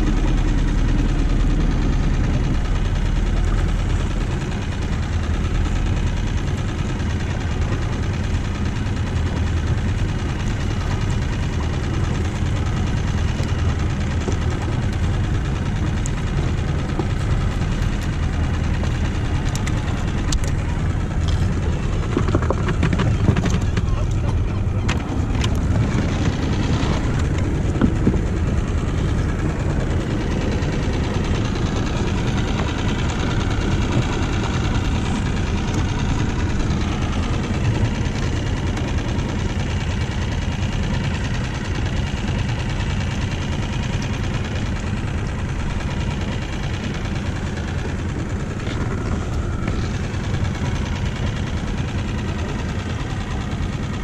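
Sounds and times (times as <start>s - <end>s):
outboard motor idling: 0.0s - 54.0s.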